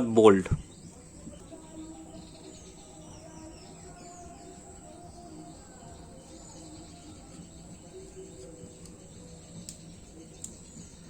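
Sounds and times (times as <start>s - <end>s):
bird chirping: 0.0s - 11.0s
high insect drone: 0.2s - 11.0s.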